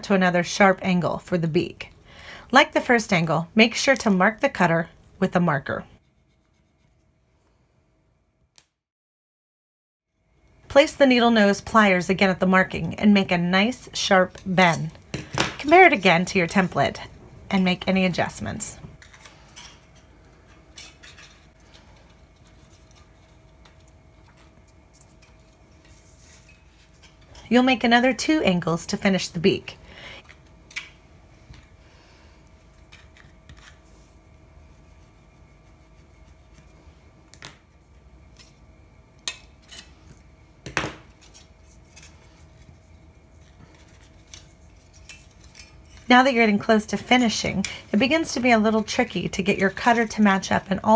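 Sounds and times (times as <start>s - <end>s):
faint steady hum: 0.0s - 8.6s, 10.1s - 50.9s.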